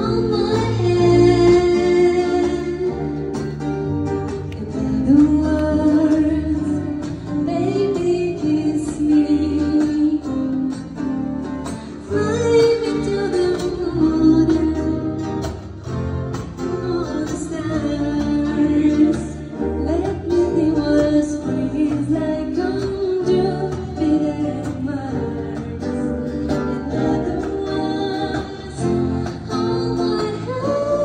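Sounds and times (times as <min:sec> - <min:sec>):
woman singing into microphone: 0:00.0 - 0:03.5, 0:04.2 - 0:11.1, 0:11.7 - 0:15.7, 0:16.5 - 0:31.0
guitar accompaniment: 0:00.0 - 0:31.0.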